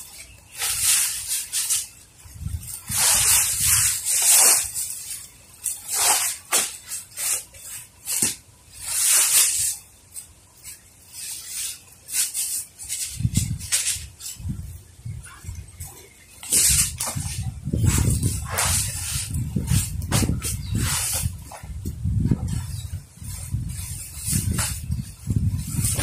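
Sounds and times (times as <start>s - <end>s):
plastic sack rustling and crinkling: 0.0s - 26.0s.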